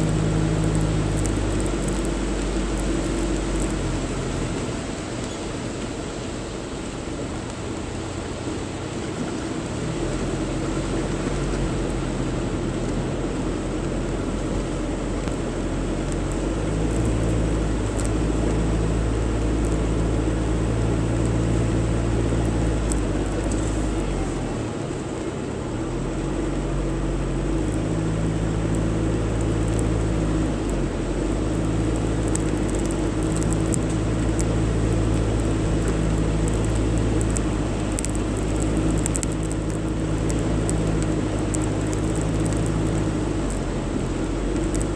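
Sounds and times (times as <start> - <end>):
car engine hum: 0.0 - 44.9
road noise: 0.0 - 44.9.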